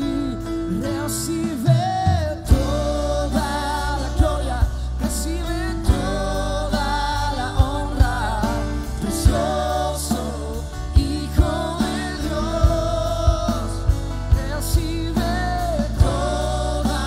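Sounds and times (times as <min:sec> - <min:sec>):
band with guitars and bass: 0:00.0 - 0:17.0
person singing slow melody: 0:00.0 - 0:17.0.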